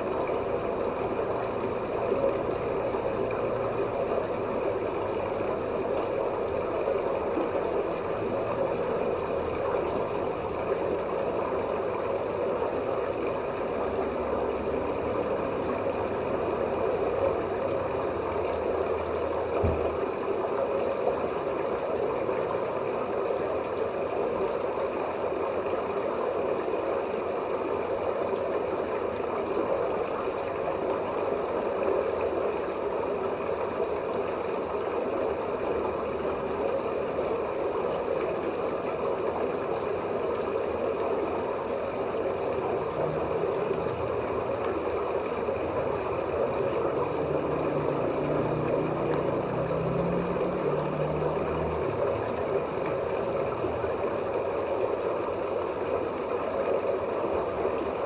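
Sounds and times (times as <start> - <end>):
rushing gurgling water: 0.0 - 58.0.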